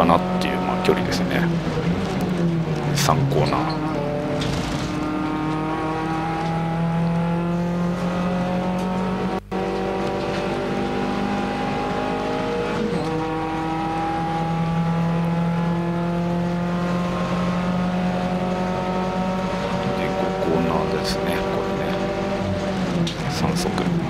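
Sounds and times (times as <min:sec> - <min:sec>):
race car engine from inside cabin: 0:00.0 - 0:24.0.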